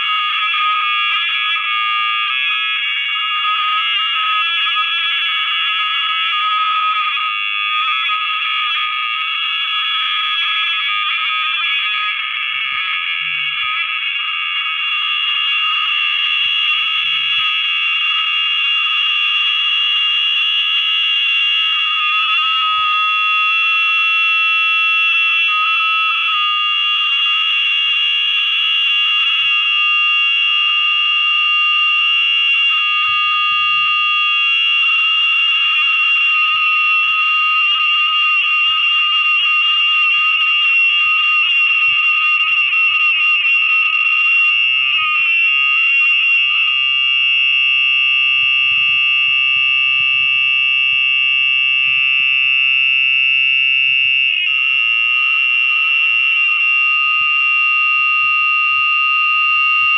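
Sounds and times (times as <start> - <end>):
shrill electronic feedback whine: 0.0 - 59.9.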